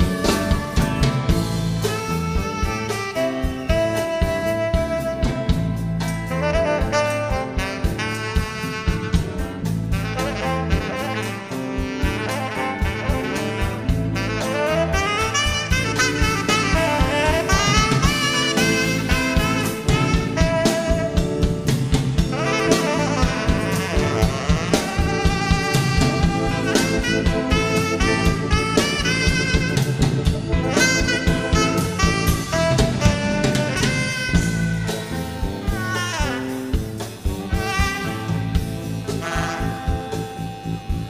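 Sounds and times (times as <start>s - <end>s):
drum kit beat: 0.0s - 41.0s
saxophone melody: 0.0s - 41.0s.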